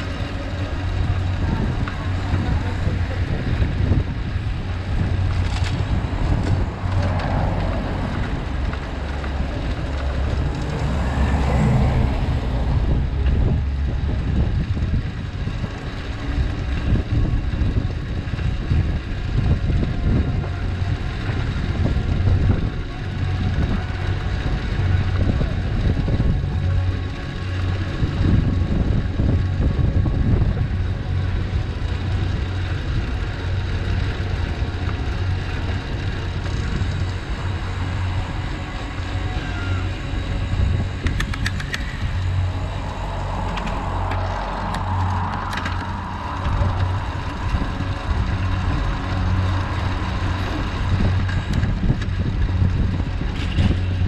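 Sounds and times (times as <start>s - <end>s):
traffic: 0.0s - 54.0s
wind rushing over microphone: 0.0s - 54.0s.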